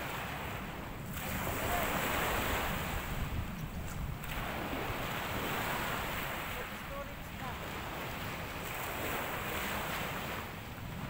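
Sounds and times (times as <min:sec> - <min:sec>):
sea waves washing: 0:00.0 - 0:11.0
wind rumbling on microphone: 0:00.0 - 0:11.0.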